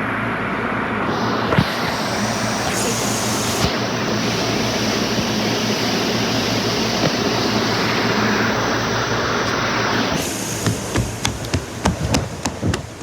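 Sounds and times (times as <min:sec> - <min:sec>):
electric train rumbling past: 0:00.1 - 0:13.0.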